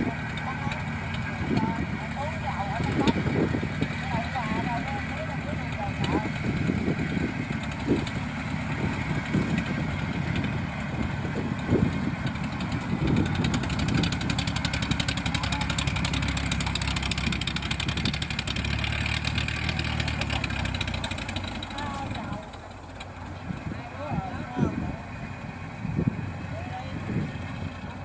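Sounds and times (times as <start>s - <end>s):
machine engine running: 0.0s - 28.0s.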